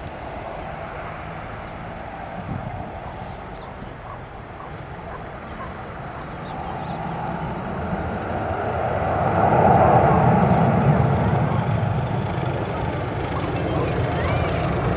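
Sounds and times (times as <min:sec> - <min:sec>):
jet engines at takeoff: 0:00.0 - 0:14.9.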